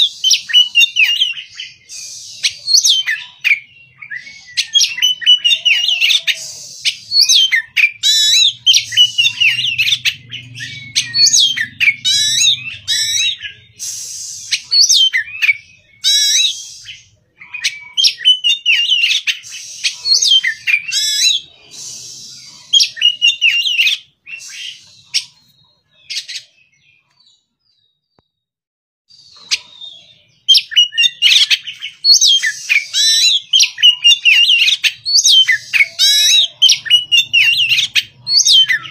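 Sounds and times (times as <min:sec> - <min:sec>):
bird singing: 0:00.0 - 0:28.4, 0:29.1 - 0:38.9.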